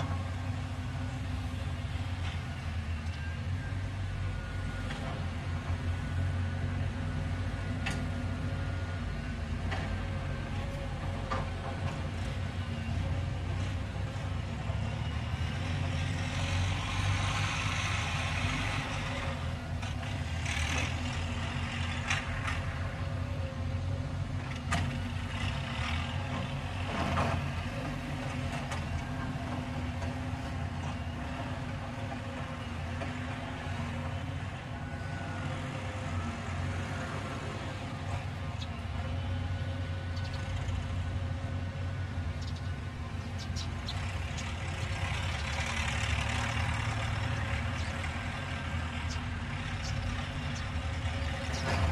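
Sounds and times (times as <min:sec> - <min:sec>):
excavator diesel engine droning: 0:00.0 - 0:51.9.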